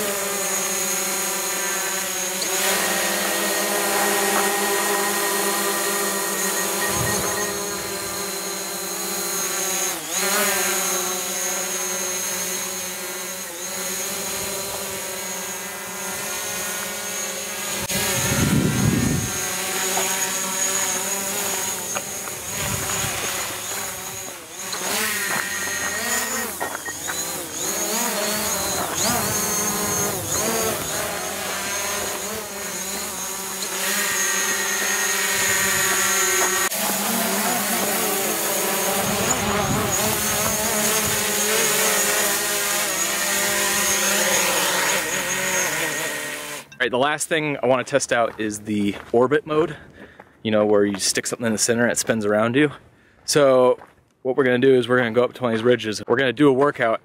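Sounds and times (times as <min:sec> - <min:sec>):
drone propellers whining: 0:00.0 - 0:46.8.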